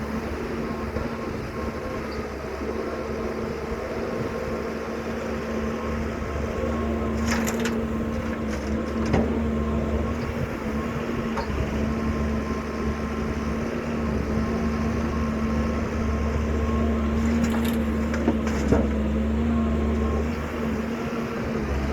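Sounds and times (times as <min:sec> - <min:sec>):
excavator diesel engine running: 0:00.0 - 0:21.9.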